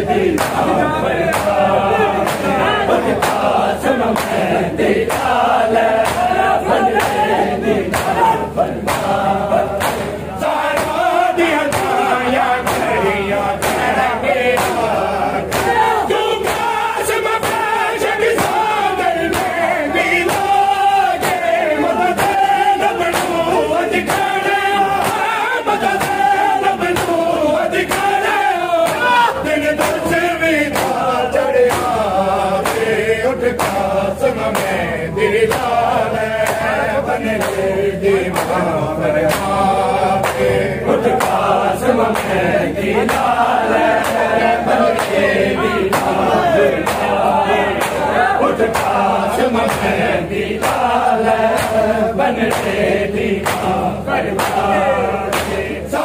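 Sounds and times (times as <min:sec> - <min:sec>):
men chanting in chorus: 0:00.0 - 0:56.0
chest-beating slaps: 0:00.3 - 0:34.8, 0:35.4 - 0:55.9.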